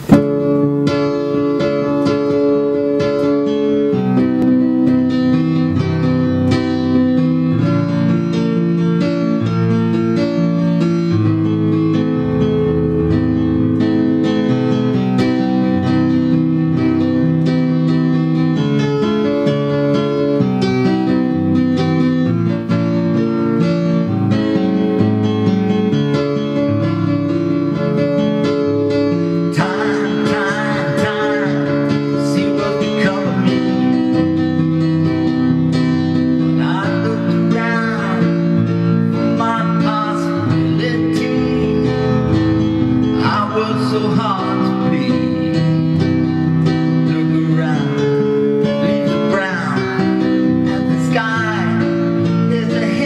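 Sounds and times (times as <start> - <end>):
digital piano chords: 0.0 - 53.0
guitar: 0.0 - 53.0.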